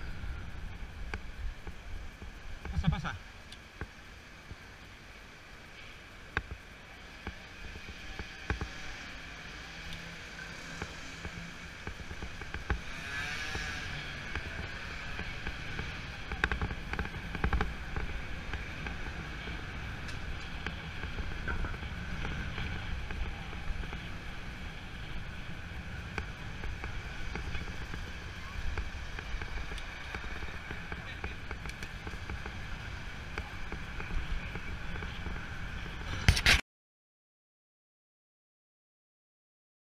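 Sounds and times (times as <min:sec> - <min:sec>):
traffic rumble: 0:00.0 - 0:36.6.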